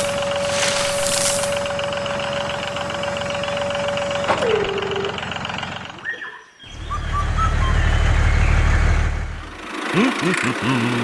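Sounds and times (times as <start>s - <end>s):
engine running with low pulse: 0.0s - 11.0s.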